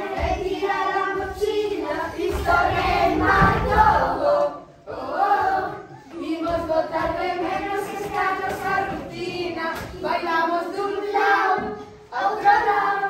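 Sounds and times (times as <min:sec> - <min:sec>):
song with sung melody: 0:00.0 - 0:13.0.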